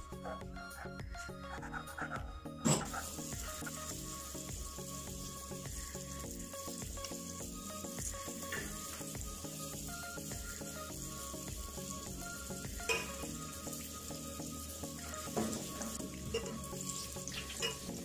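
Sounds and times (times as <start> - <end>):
dough sizzling in hot oil: 2.7 - 18.0.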